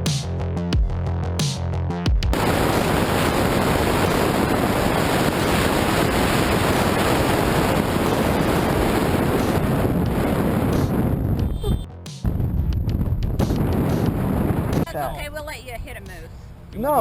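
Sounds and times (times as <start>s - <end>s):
wind buffeting helmet microphone: 2.3s - 16.8s.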